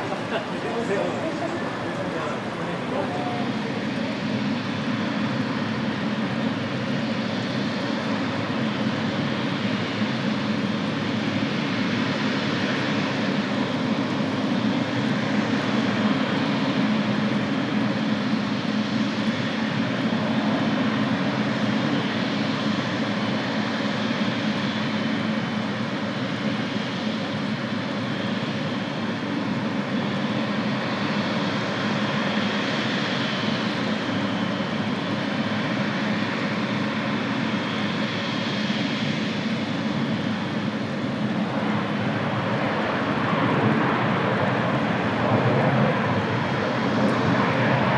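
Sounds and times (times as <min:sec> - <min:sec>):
jet airliner engines running: 0:00.0 - 0:47.9.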